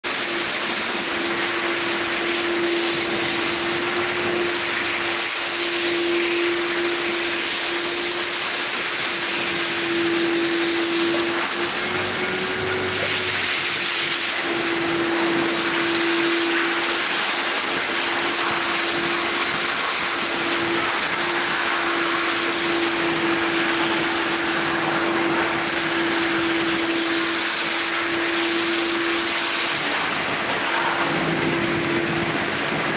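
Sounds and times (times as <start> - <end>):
car wash hiss: 0.0 - 32.9
car wash motor whine: 0.0 - 32.9.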